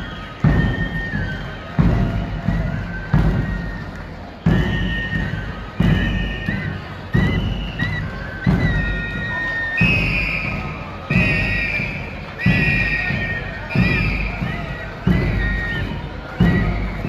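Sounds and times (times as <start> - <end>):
high flute melody with trills: 0.0 - 17.0
large drum strikes: 0.4 - 3.8, 4.4 - 17.0.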